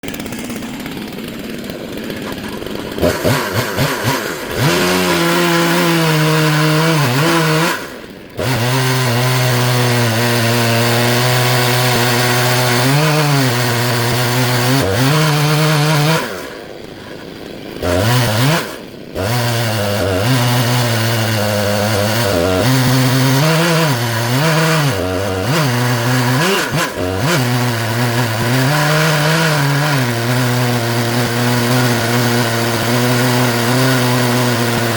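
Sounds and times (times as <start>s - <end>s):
chainsaw cutting wood at full throttle: 0.0s - 34.9s.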